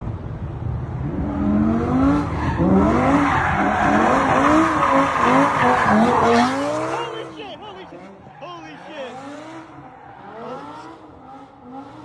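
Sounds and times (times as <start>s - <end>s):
car tyres screeching: 1.1s - 12.0s.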